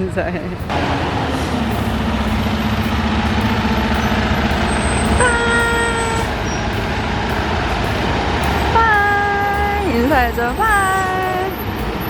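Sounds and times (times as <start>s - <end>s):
bus engine rumbling: 0.0s - 12.0s
vehicle horn: 0.7s - 11.7s.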